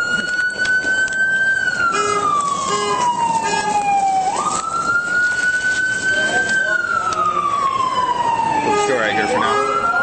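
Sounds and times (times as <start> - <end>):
police siren wailing: 0.0 - 10.0.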